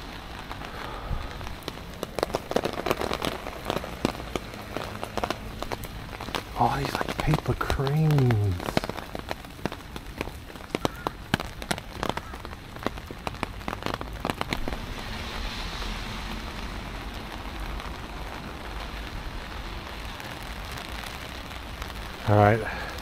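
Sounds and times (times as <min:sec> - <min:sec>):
large drops dripping: 0:00.0 - 0:23.0
rain hissing: 0:00.0 - 0:23.0.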